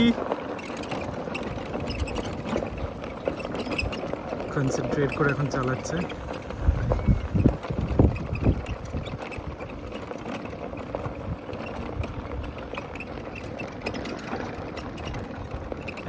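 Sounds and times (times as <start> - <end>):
ride-on vehicle running on track: 0.0 - 16.0.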